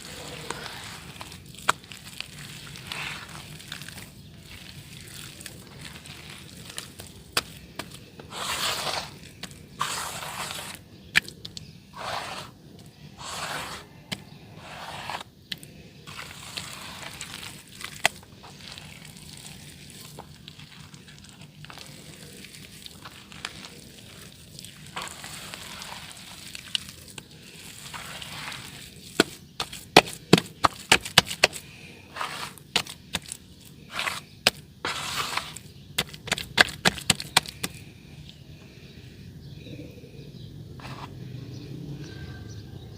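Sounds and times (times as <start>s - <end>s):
dirt crumbling in water: 0.0s - 12.6s, 14.9s - 37.9s.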